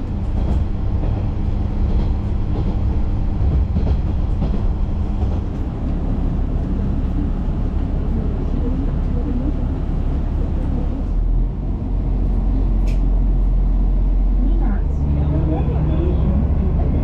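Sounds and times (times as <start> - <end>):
diesel railcar rumbling: 0.0 - 17.0.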